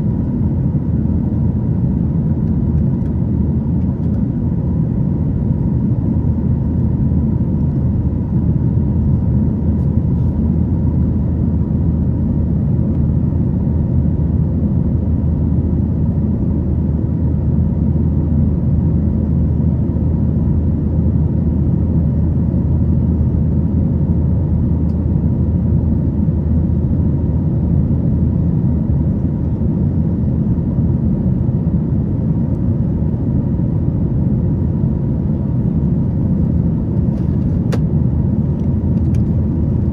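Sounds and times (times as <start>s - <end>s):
airplane cabin low roar: 0.0s - 39.9s.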